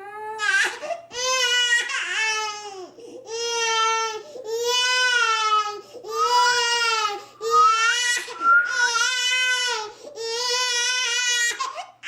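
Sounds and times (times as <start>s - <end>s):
baby crying: 0.0s - 12.0s.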